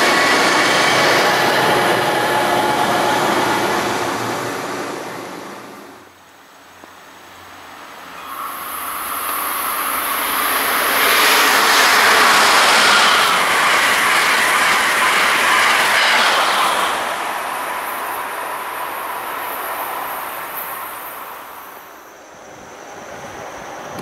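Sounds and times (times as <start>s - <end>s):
train passing on rails: 0.0s - 24.0s.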